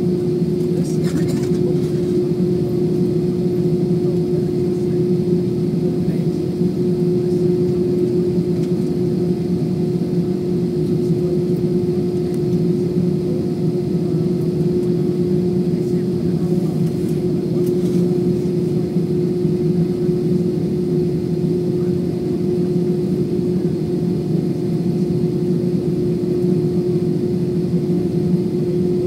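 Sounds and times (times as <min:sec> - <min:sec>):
constant hum tone: 0:00.0 - 0:29.0
jet cabin engine drone: 0:00.0 - 0:29.0.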